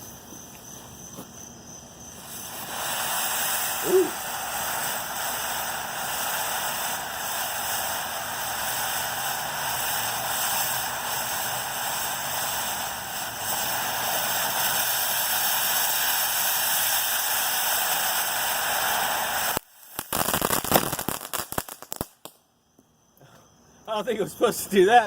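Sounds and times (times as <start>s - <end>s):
firework fountain hissing sparks: 1.9s - 22.4s.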